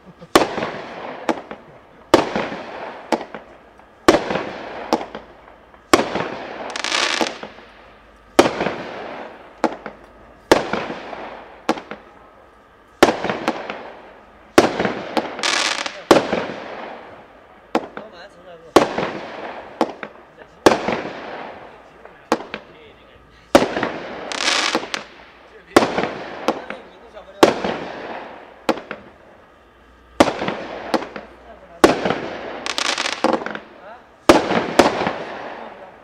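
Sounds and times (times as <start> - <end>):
firework tails hissing: 0.0 - 12.2, 13.0 - 36.0
fireworks bangs: 0.0 - 36.0.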